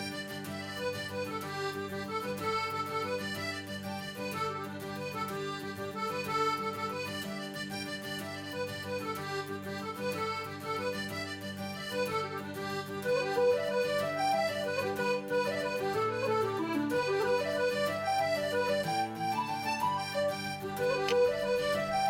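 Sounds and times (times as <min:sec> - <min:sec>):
accordion music: 0:00.0 - 0:22.0.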